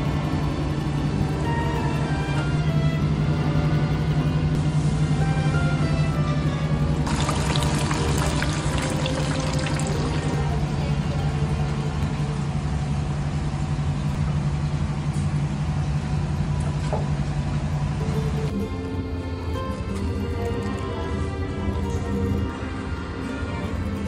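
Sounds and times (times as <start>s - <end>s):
background music drone: 0.0s - 13.4s, 17.8s - 24.0s.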